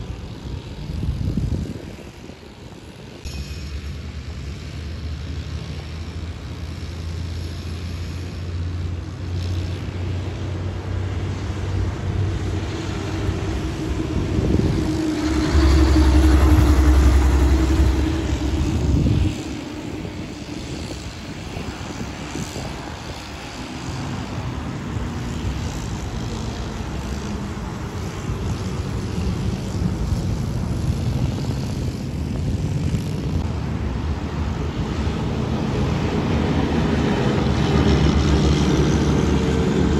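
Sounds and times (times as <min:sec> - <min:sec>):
passing traffic: 0:00.0 - 0:39.9
tanker truck passing: 0:02.6 - 0:39.9
dump truck engine passing: 0:03.8 - 0:39.9.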